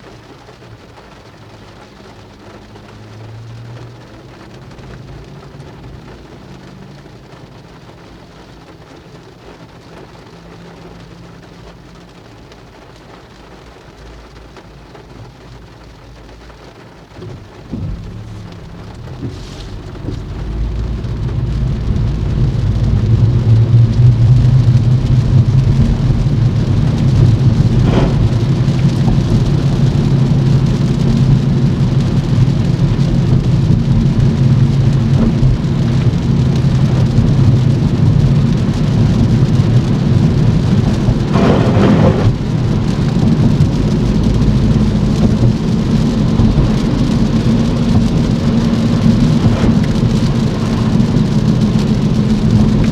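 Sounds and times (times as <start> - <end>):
car driving on wet road: 0.0 - 52.9
heavy rain: 0.0 - 52.9.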